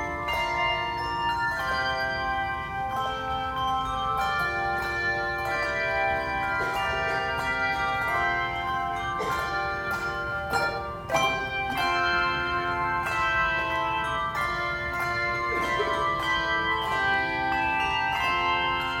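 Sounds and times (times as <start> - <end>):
handbells playing a tune: 0.0 - 19.0.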